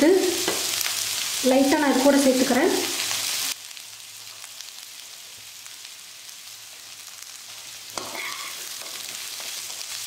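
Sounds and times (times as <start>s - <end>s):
food sizzling softly in pan: 0.0s - 10.0s.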